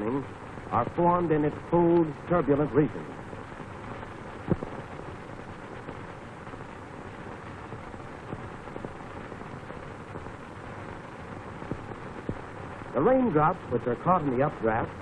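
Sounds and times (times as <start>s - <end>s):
crackles and pops: 0.0s - 15.0s
film soundtrack hiss: 0.0s - 15.0s.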